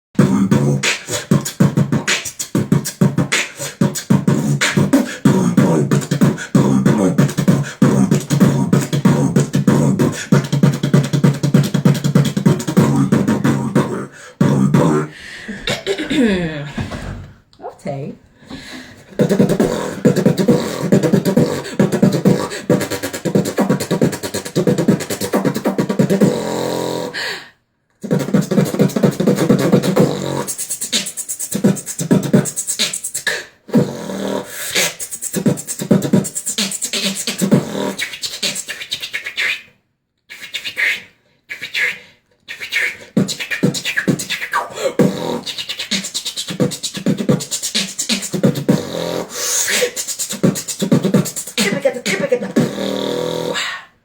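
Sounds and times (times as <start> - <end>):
person beatboxing: 0.2 - 17.4, 19.0 - 27.3, 28.0 - 54.0.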